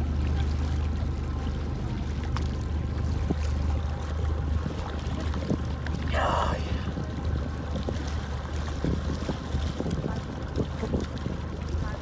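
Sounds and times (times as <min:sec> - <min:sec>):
boat motor idling: 0:00.0 - 0:12.0
water lapping and trickling: 0:00.0 - 0:12.0.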